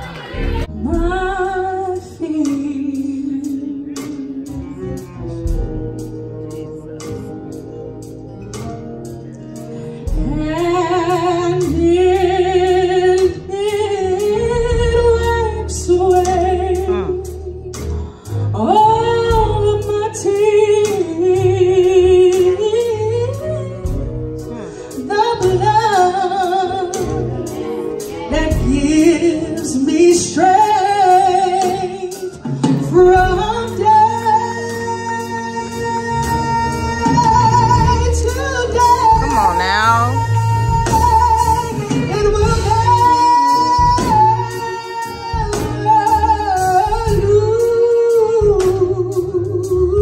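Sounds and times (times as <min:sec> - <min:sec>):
woman singing gospel song: 0:00.0 - 0:04.6, 0:10.0 - 0:17.7, 0:18.6 - 0:50.0
sustained instrumental accompaniment: 0:00.0 - 0:50.0.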